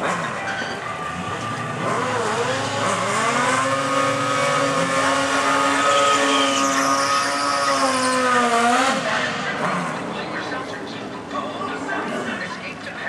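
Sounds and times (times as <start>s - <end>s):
sport bike engines revving: 0.0s - 13.0s.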